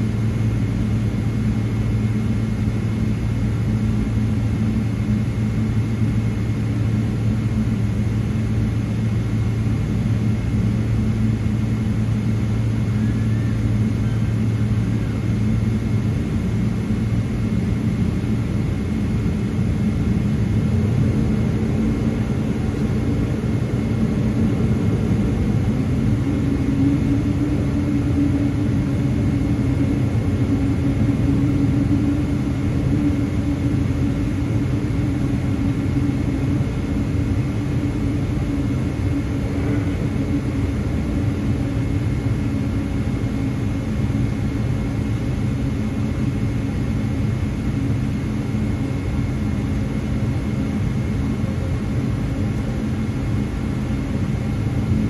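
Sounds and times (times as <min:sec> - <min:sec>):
jet engines rumbling with high whine: 0:00.0 - 0:55.0.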